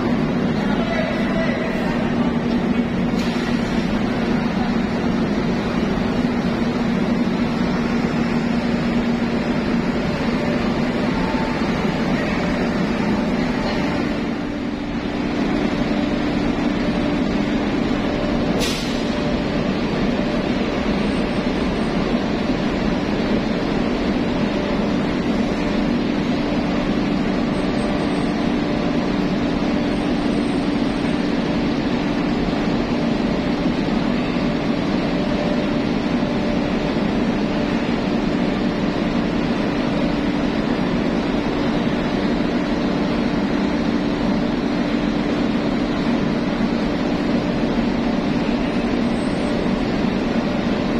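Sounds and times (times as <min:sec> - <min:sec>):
ship machinery drone: 0:00.0 - 0:50.9.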